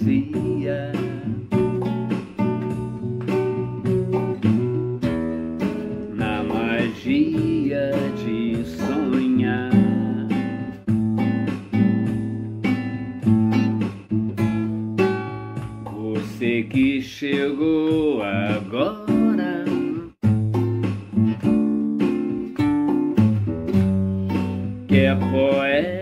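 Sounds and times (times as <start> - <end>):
acoustic guitar playing: 0.0 - 26.0
bass line: 0.0 - 26.0.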